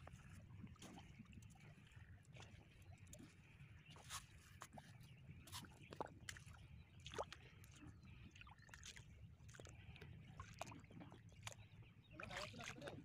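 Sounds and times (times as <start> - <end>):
river water sloshing and dripping: 0.0 - 13.0
small water splashes: 0.0 - 13.0.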